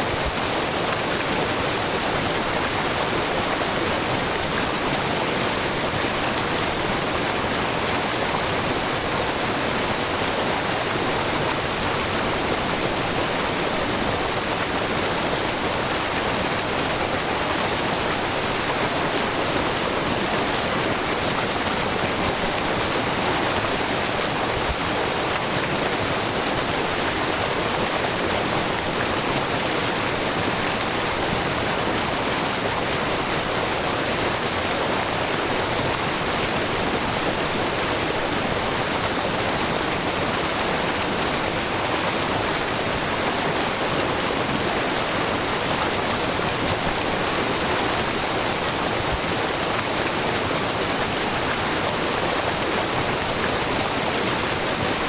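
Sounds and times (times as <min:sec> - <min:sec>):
waterfall rushing and splashing: 0:00.0 - 0:55.0.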